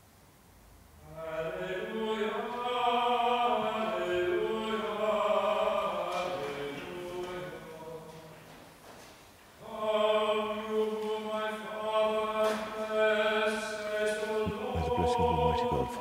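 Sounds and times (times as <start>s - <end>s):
slow sung chant: 1.0s - 8.8s, 9.6s - 16.0s.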